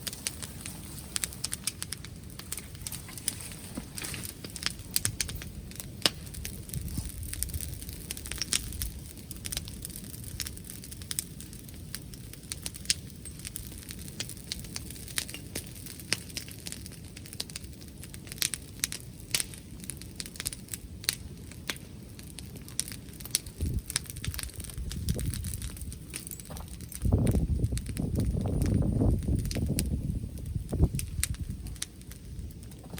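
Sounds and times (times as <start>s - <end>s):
bonfire crackling and popping: 0.0s - 32.9s.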